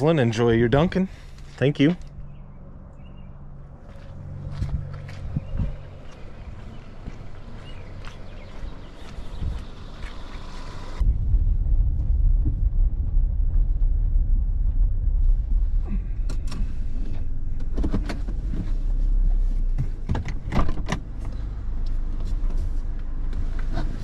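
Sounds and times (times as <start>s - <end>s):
low rumble inside car: 0.2s - 24.0s.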